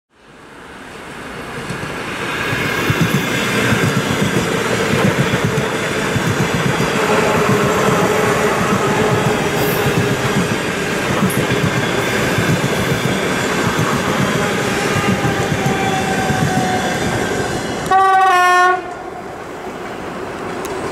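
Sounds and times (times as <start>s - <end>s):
train wheels rumbling on rails: 1.0s - 20.9s.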